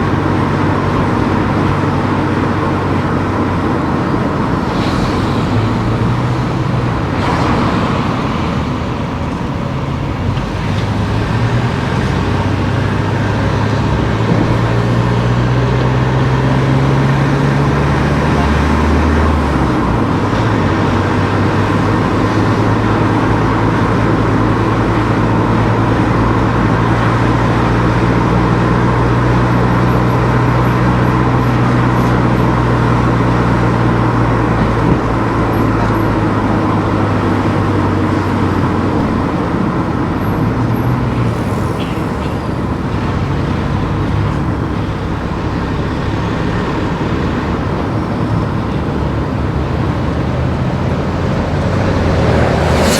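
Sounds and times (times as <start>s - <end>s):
car engine humming: 0.0s - 52.9s
road and tyre noise: 0.0s - 52.9s.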